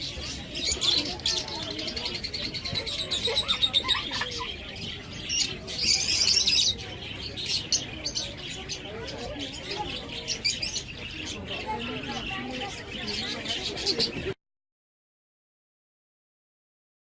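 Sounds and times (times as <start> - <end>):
caged birds chirping: 0.0 - 14.4.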